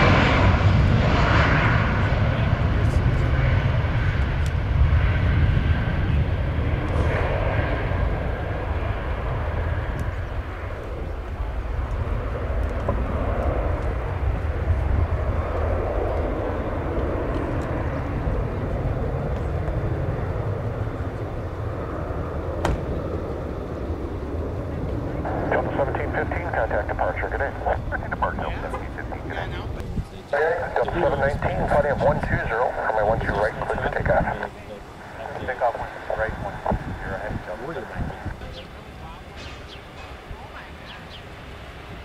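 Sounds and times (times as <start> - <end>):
jet engines rumbling at takeoff: 0.0 - 42.0.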